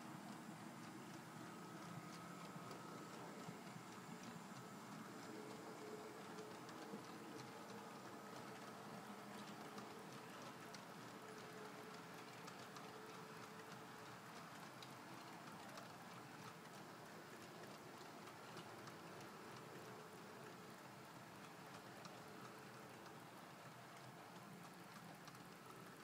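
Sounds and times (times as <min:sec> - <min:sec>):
faint motor hum: 0:00.0 - 0:26.0
model train wheels clicking: 0:00.0 - 0:26.0.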